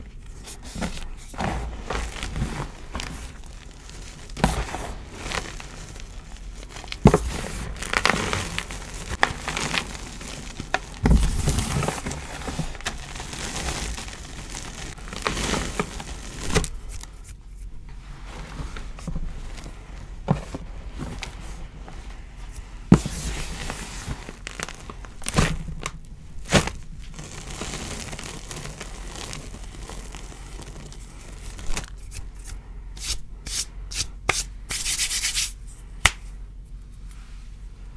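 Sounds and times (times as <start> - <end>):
hands crushing chalk powder: 0.3 - 17.4, 22.9 - 25.9, 26.5 - 37.2.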